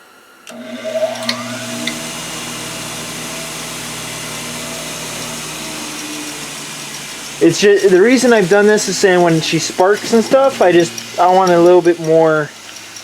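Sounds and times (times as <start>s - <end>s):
bench grinder motor whine: 0.5s - 12.7s.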